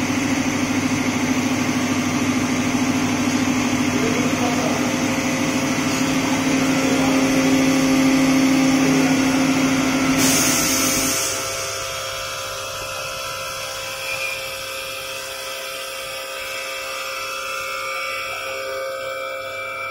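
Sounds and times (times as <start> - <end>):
milling machine hum: 0.0 - 19.9.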